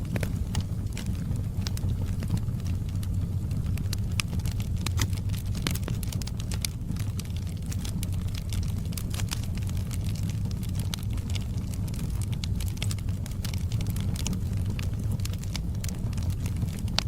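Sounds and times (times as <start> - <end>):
low rumble of burning fire: 0.0 - 17.0
wood fire crackling: 0.0 - 17.0.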